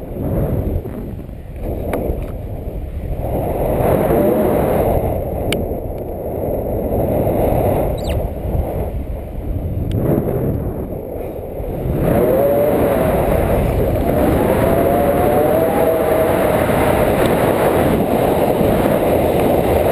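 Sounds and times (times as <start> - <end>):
wind rushing over microphone: 0.0 - 19.9.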